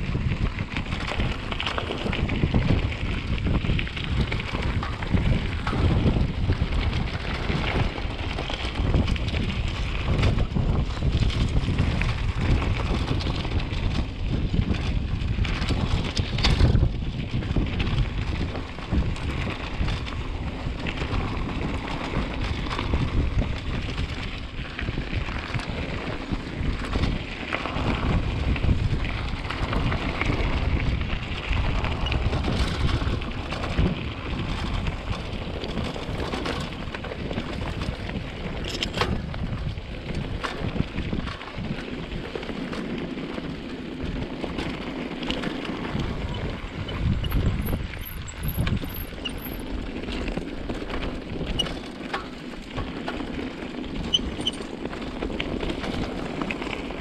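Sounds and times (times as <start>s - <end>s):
bike knocks and rattles: 0.0s - 57.0s
bike tyres rumbling on dirt: 0.0s - 57.0s
wind on microphone: 0.0s - 57.0s.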